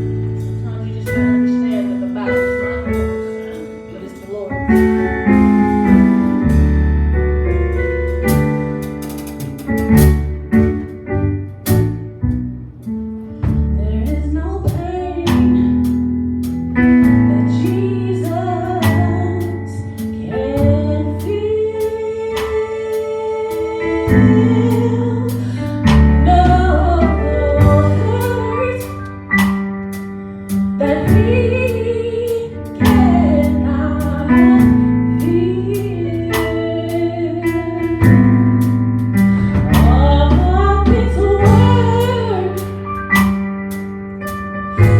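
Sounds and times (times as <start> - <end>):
gospel music with keyboard and drums: 0.0 - 44.9.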